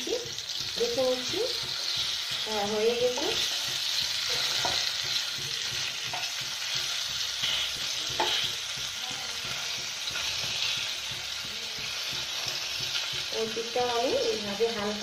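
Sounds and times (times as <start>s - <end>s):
fish sizzling in oil: 0.0s - 15.0s
wooden spatula knocking and scraping: 0.0s - 15.0s.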